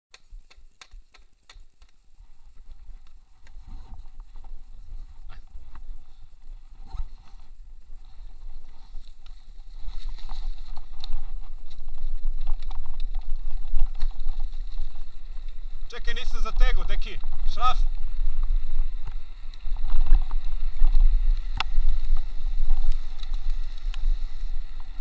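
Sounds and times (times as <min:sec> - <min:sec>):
bike clicks and rattles: 0:00.1 - 0:25.0
bike tyres rolling on dirt: 0:00.1 - 0:25.0
wind buffeting microphone: 0:03.6 - 0:25.0.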